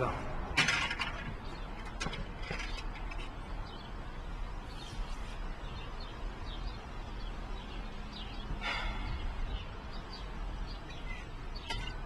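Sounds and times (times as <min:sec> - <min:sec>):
small birds chirping: 0:01.1 - 0:12.0.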